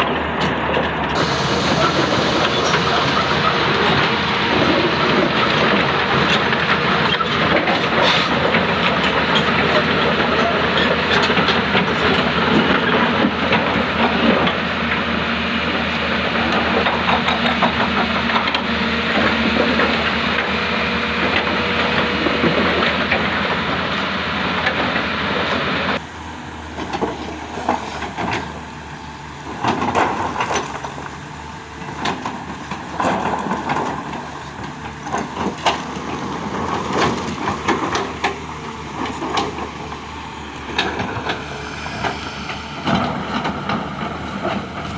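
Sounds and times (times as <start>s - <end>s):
excavator engines working: 0.0s - 44.9s.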